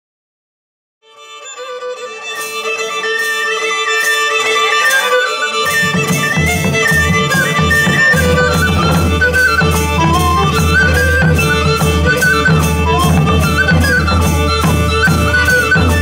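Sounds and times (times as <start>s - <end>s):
folk dance music with drone: 1.0s - 16.0s.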